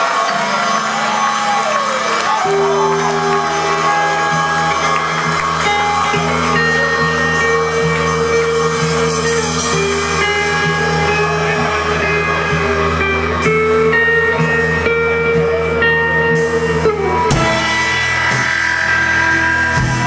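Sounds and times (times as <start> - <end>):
long held guitar notes: 0.0 - 20.0
rock band playing: 0.0 - 20.0.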